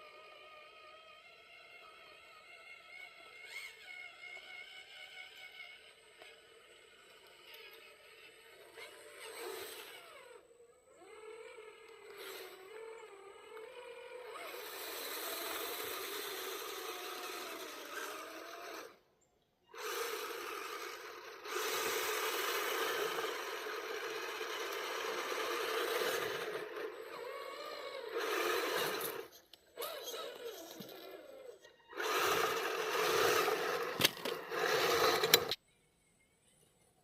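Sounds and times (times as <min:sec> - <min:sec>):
toy truck electric motor whining: 0:00.0 - 0:35.6.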